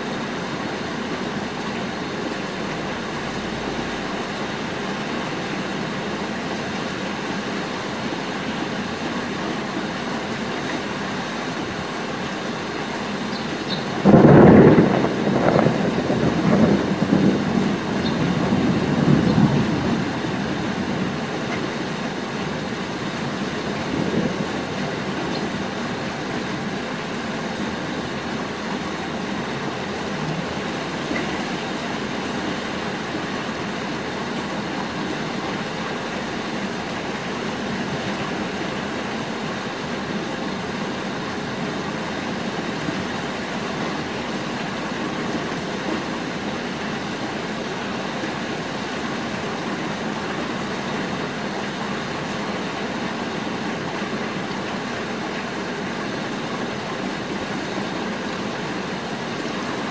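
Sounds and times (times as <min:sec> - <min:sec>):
rain on rooftops: 0:00.0 - 0:59.9.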